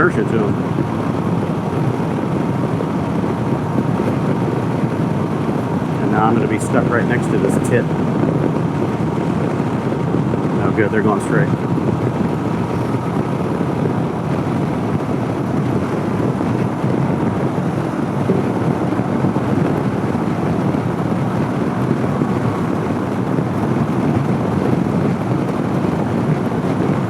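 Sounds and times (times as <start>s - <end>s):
motorcycle engine running: 0.0s - 27.0s
road noise: 0.0s - 27.0s
wind rushing on microphone: 0.0s - 27.0s.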